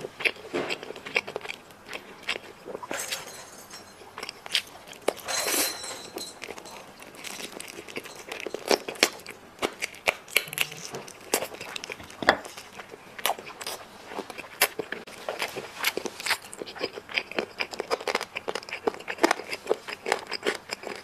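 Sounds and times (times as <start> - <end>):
chewing and crunching meat: 0.0 - 21.0.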